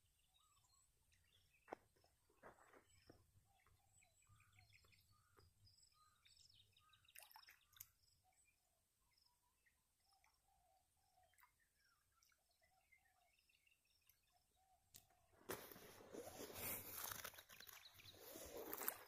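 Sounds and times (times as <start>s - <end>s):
bird chirps: 0.0s - 15.2s, 16.0s - 18.9s.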